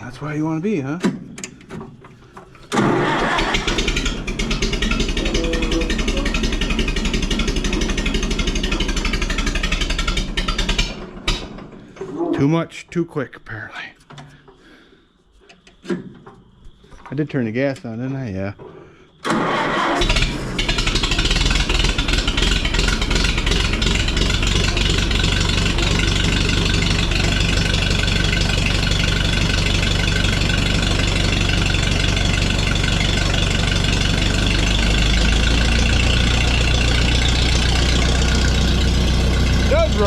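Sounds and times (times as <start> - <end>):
tractor engine idling: 0.0 - 13.3, 17.0 - 40.0.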